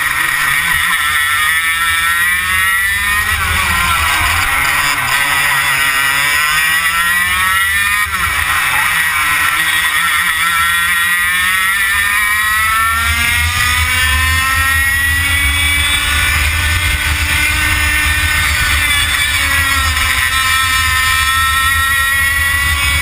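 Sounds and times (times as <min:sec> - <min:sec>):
kart engine at high revs: 0:00.0 - 0:23.0.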